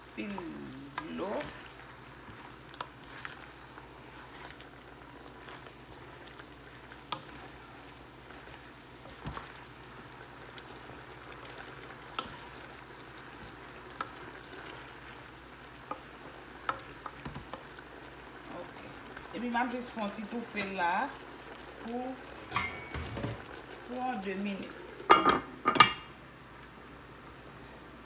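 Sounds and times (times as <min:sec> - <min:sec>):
food simmering hiss: 0:00.0 - 0:28.0.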